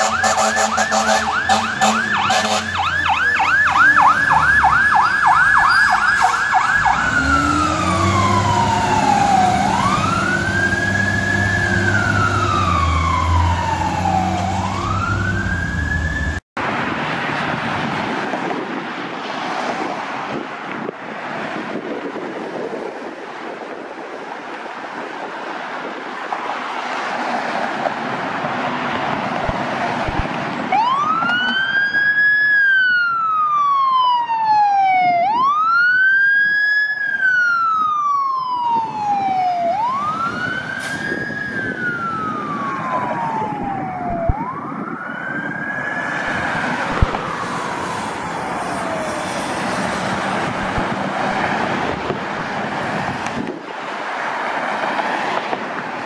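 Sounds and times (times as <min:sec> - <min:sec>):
fire truck siren wailing: 0:00.0 - 0:17.8, 0:27.7 - 0:56.0
road traffic noise: 0:00.0 - 0:56.0.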